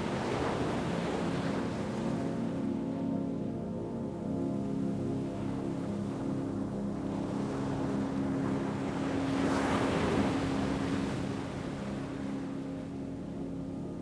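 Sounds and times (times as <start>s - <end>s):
ambient music drone: 0.0s - 14.0s.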